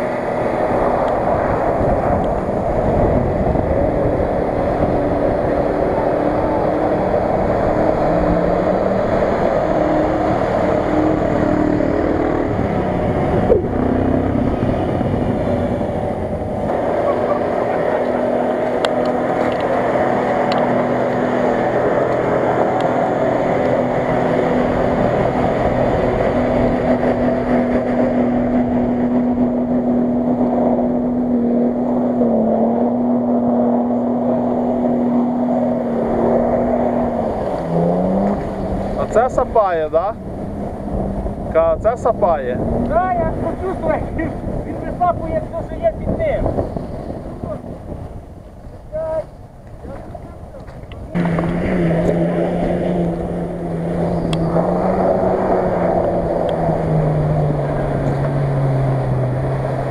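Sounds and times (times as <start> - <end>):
off-road engines revving: 0.0 - 59.9
wind buffeting microphone: 0.0 - 59.9.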